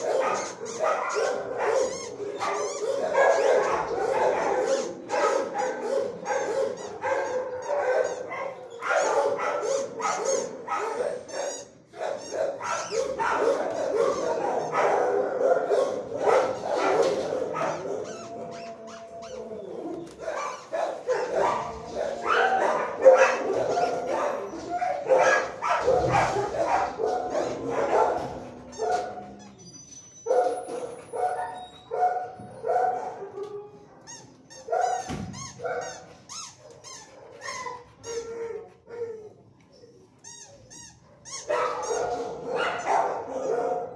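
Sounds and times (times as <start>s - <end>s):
dogs barking and yipping: 0.0s - 43.9s.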